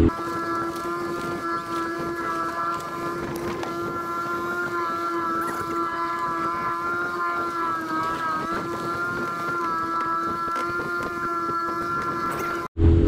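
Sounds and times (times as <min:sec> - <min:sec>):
water rushing: 0:00.0 - 0:12.7
wind: 0:00.0 - 0:12.7
boat motor whining: 0:00.0 - 0:12.8.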